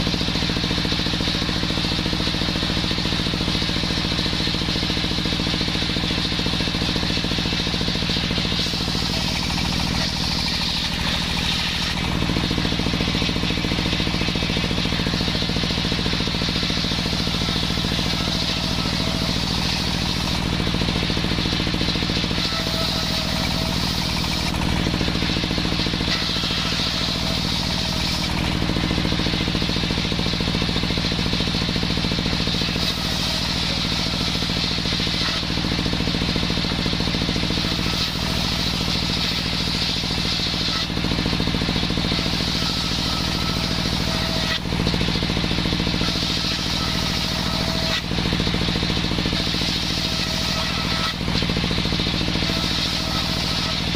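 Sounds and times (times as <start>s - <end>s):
circular saw engine running: 0.0s - 53.9s.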